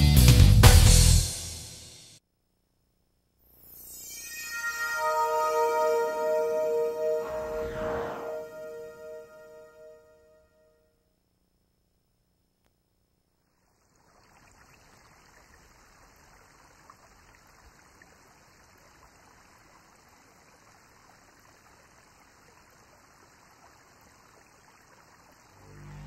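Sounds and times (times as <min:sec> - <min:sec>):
faint steady hiss: 0:02.1 - 0:26.0.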